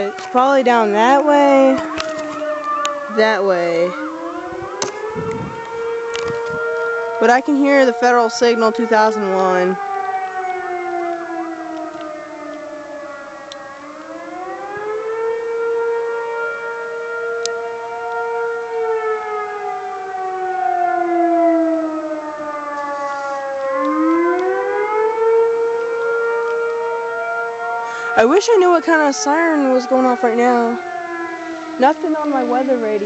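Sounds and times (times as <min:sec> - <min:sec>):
low-toned siren: 0:00.0 - 0:33.0
outdoor warning sirens wailing: 0:00.0 - 0:33.0.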